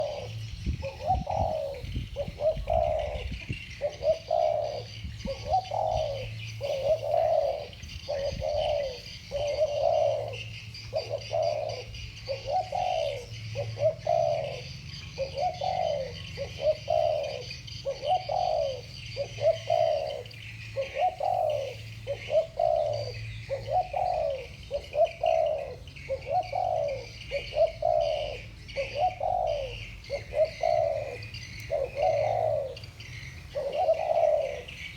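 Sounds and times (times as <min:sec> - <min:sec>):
doves cooing: 0:00.0 - 0:34.9.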